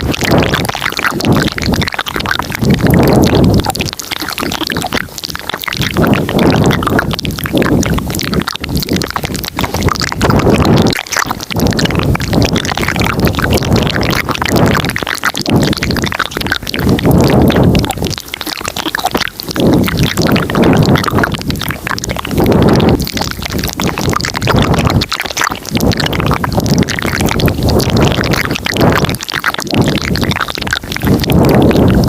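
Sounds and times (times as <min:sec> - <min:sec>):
mouth clicking sounds: 0:00.0 - 0:32.0.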